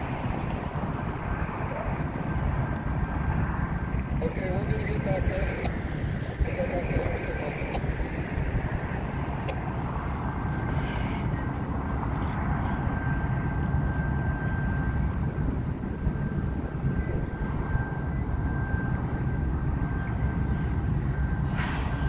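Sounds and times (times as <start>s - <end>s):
thin steady whine: 0.0s - 22.0s
wind buffeting microphone: 0.0s - 22.0s.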